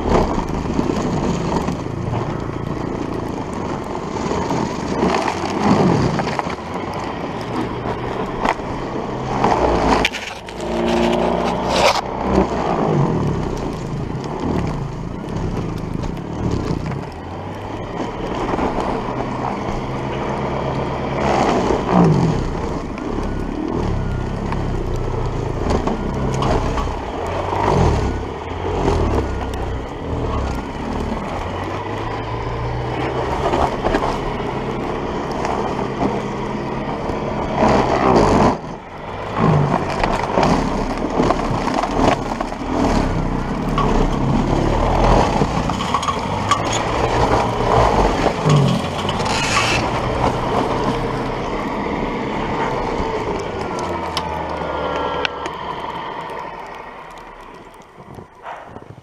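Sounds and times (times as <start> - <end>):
auger churning snow: 0.0 - 58.7.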